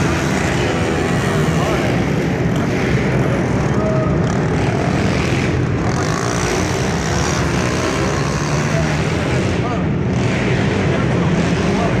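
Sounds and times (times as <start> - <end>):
pit bike engines running: 0.0 - 12.0.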